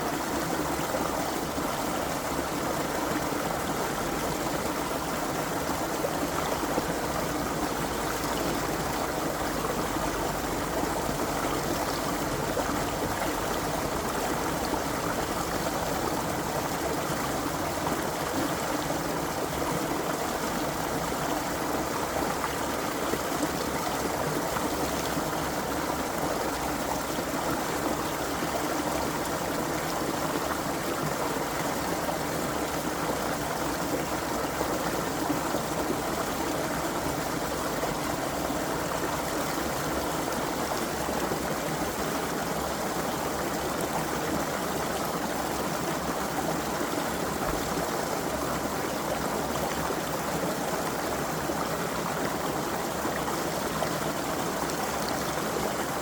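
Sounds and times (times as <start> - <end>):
creek water babbling over stones: 0.0 - 56.0.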